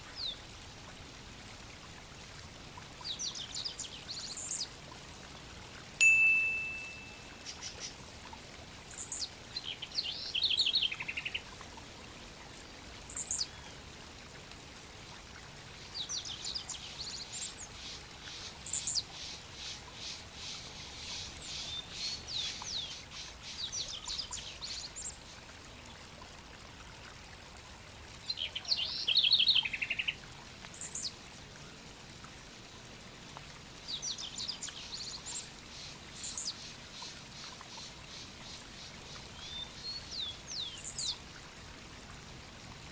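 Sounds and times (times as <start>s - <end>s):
steady background hiss: 0.0s - 42.9s.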